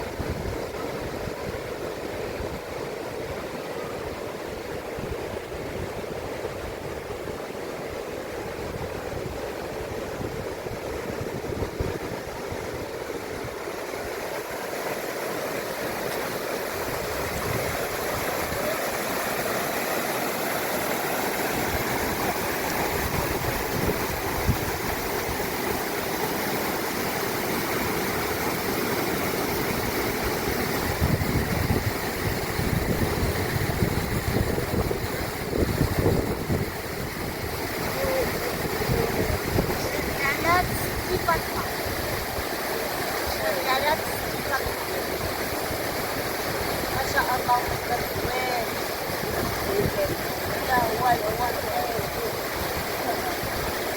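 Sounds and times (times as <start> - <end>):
rushing mountain stream: 0.0 - 53.9.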